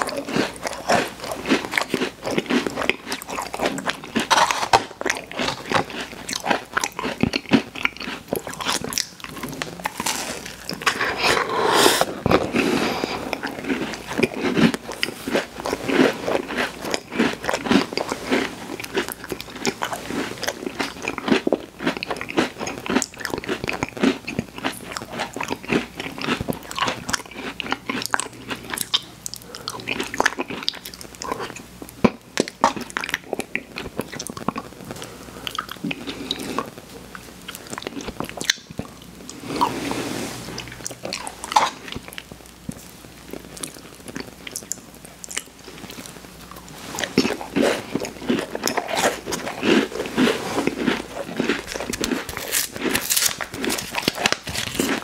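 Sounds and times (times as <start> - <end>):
person biting and chewing food: 0.0 - 36.8, 37.4 - 55.0.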